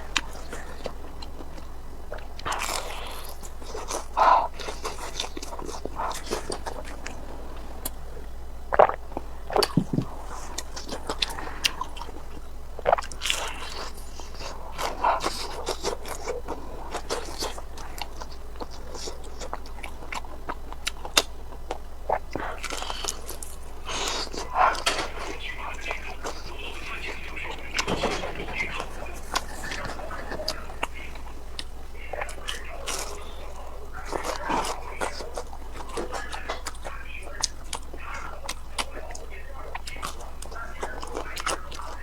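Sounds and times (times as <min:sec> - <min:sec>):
crunching and chewing fried chicken: 0:00.0 - 0:42.0.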